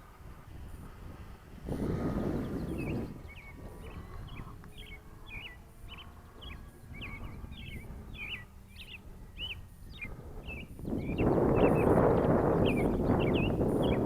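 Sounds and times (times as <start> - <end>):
wind on microphone: 0.0 - 14.0
bird chirping: 2.0 - 14.0.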